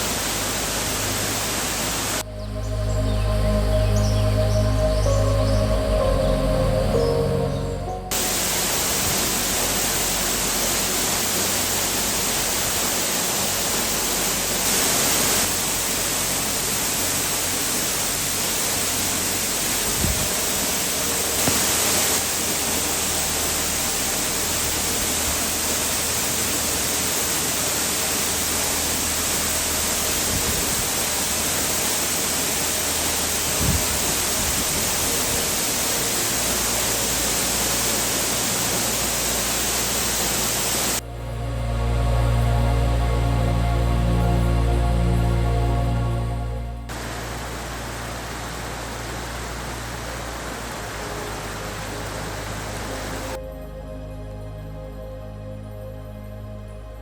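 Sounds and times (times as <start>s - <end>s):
water rushing: 0.0s - 3.2s, 4.0s - 53.4s.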